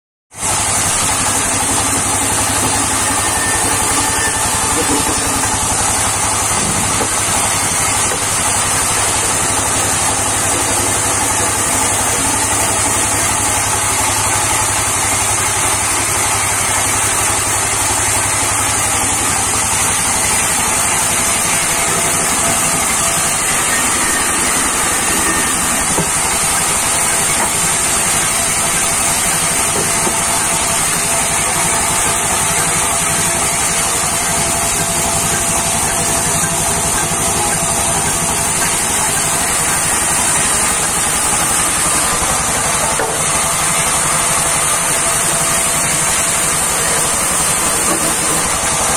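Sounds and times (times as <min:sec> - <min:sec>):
band saw cutting logs: 0:00.4 - 0:48.9.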